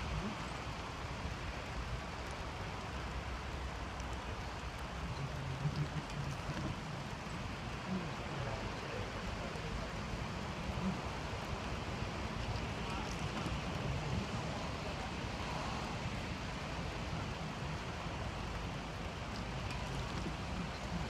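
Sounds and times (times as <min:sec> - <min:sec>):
vehicle engines idling: 0:00.0 - 0:21.0
faint indistinct voices: 0:04.1 - 0:21.0.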